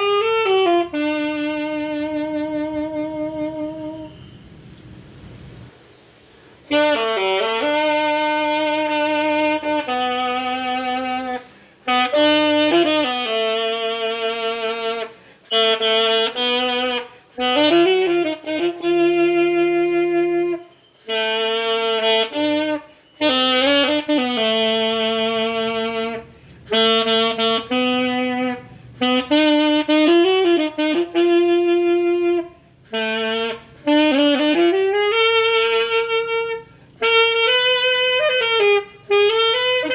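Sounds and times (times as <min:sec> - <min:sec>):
solo saxophone melody: 0:00.0 - 0:05.8, 0:06.5 - 0:39.9.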